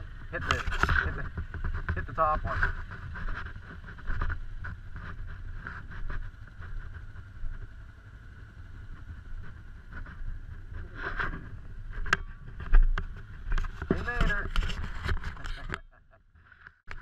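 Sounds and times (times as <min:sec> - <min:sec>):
vehicle engines idling: 0:00.0 - 0:16.6.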